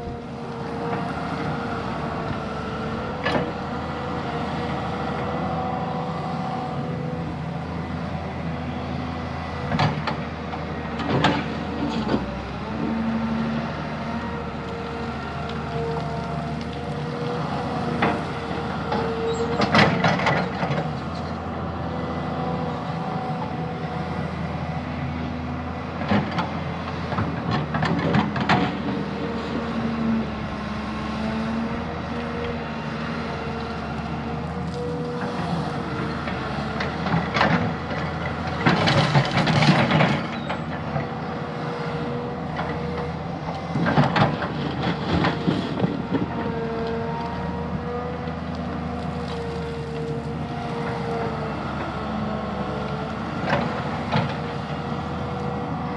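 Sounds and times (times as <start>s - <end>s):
diesel earthmoving machinery running: 0.0s - 55.9s.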